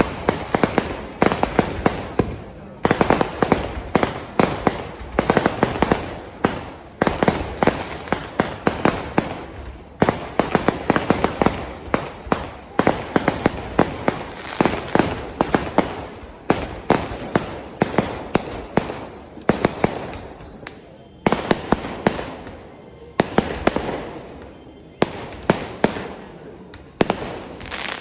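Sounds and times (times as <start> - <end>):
firework explosions: 0.0 - 28.0.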